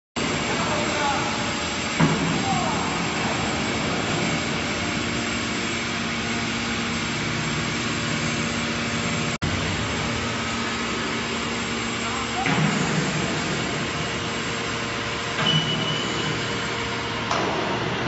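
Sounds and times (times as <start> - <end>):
hydraulic power unit hum and hiss: 0.2 - 18.0.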